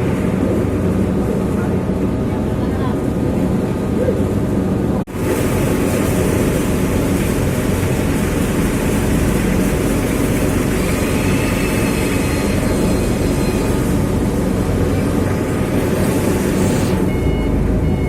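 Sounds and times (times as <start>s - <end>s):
forklift engine running: 0.0s - 18.0s
loud mechanical noise: 0.0s - 18.0s.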